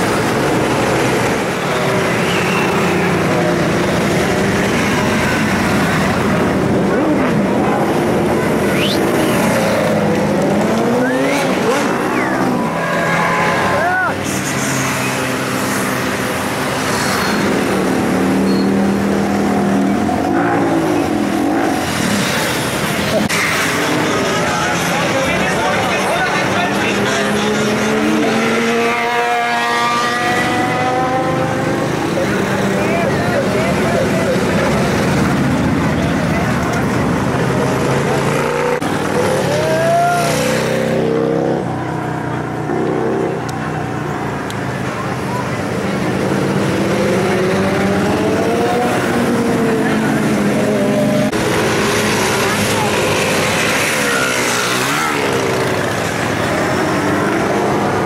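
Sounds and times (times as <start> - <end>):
engine revving: 0.0 - 35.8, 46.1 - 58.0
motorcycle engines passing: 0.0 - 58.0.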